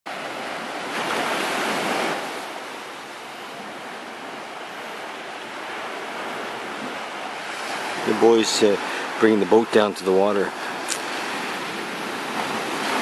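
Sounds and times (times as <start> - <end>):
small waves washing on sand: 0.1 - 13.0.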